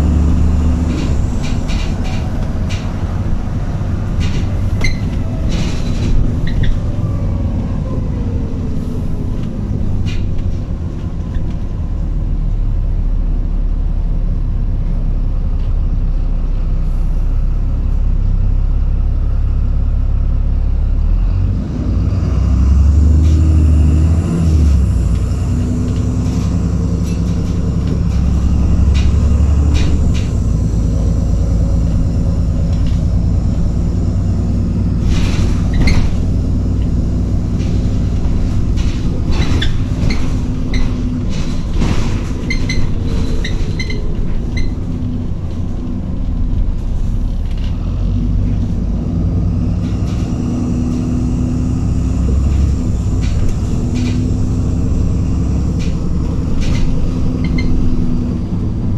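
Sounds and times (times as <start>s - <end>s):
bus diesel engine drone: 0.0s - 58.9s
road rumble: 0.0s - 58.9s.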